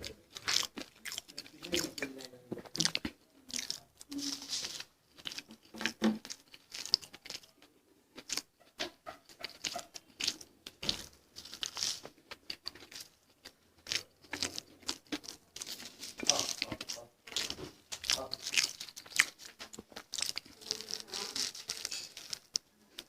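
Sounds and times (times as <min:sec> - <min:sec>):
crunchy food being chewed: 0:00.0 - 0:23.0.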